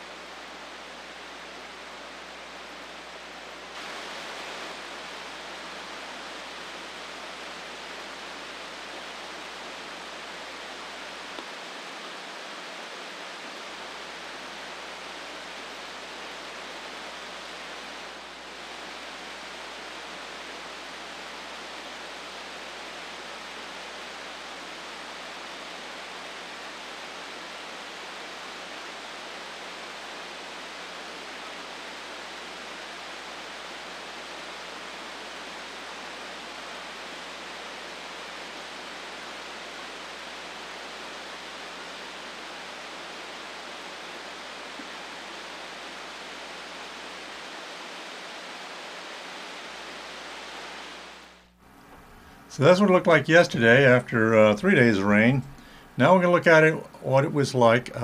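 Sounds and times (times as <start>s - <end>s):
waterfall rushing: 0.0s - 51.4s.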